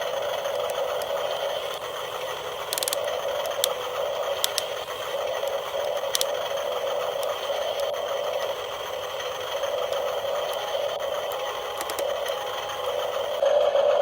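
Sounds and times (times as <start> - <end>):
sharp clicks: 0.0 - 13.4
small electric motors whirring: 0.0 - 13.5.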